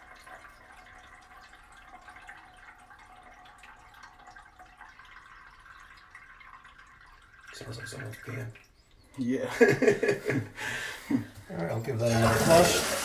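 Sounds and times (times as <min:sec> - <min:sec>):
toilet refilling water trickle: 0:00.0 - 0:13.0.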